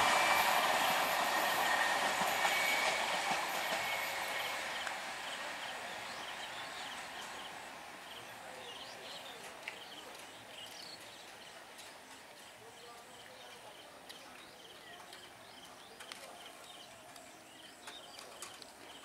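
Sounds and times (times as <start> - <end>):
train rolling: 0.0 - 19.0.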